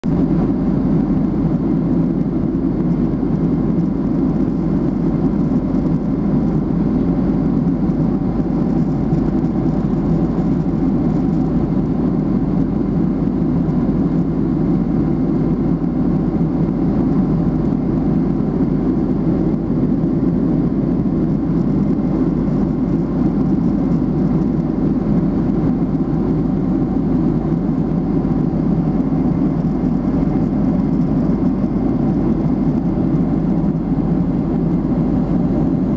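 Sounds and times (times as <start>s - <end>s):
airplane cabin drone: 0.0s - 35.9s.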